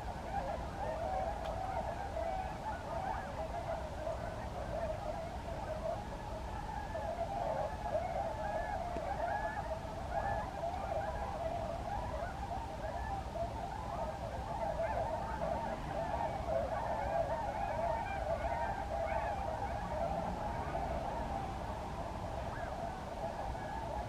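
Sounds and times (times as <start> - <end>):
swans calling: 0.0 - 24.0.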